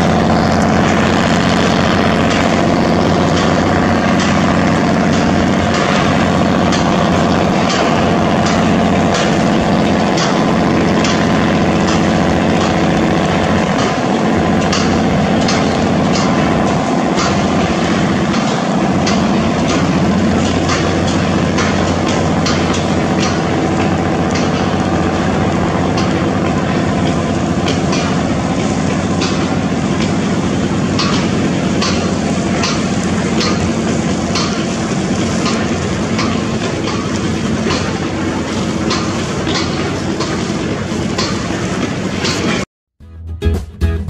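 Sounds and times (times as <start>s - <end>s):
boat diesel engine running: 0.0s - 42.6s
water rushing at bow: 0.0s - 42.6s.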